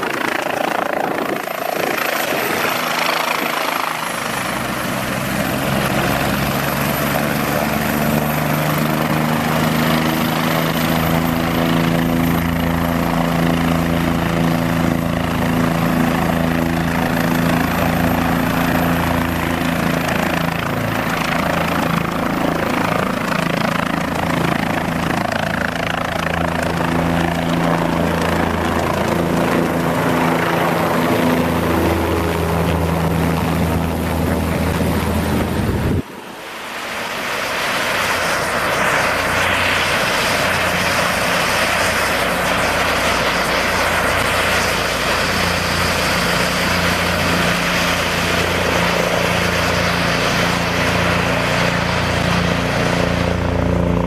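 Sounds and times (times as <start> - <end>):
broad rushing noise: 0.0 - 54.0
helicopter rotor and engine: 0.0 - 54.0.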